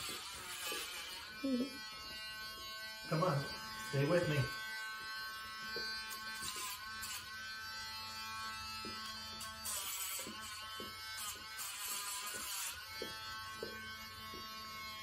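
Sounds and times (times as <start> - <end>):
rotary nail grinder whining: 0.0 - 15.0.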